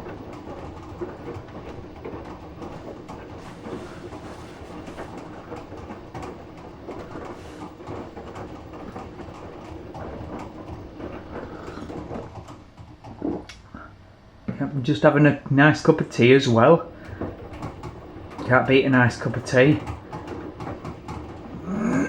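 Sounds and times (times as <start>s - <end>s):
washing machine drum tumbling: 0.0s - 13.5s, 14.4s - 22.0s.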